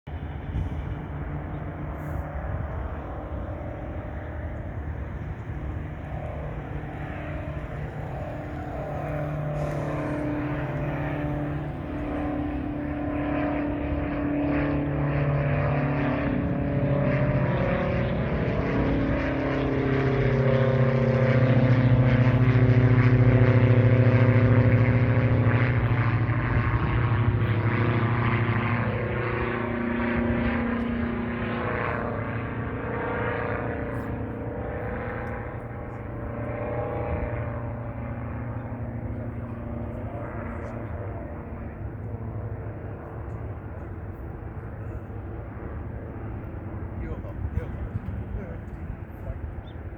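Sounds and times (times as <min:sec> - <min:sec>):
propeller engines droning: 0:00.1 - 0:49.9.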